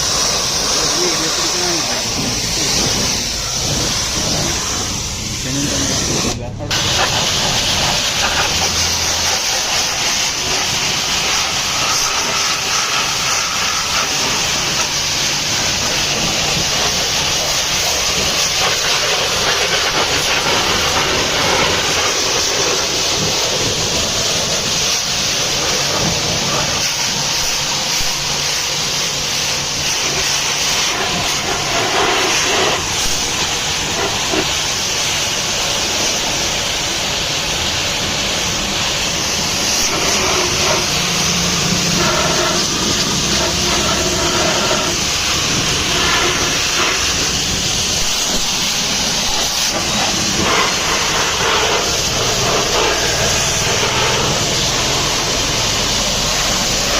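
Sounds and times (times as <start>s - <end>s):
water jet spraying a truck: 0.0s - 56.9s.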